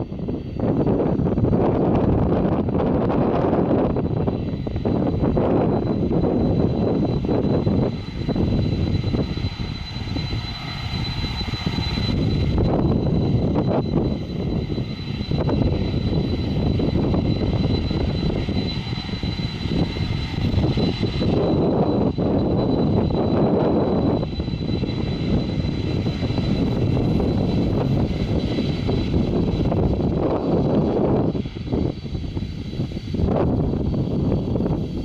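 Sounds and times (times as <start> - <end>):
airliner engines taking off: 0.0 - 35.0.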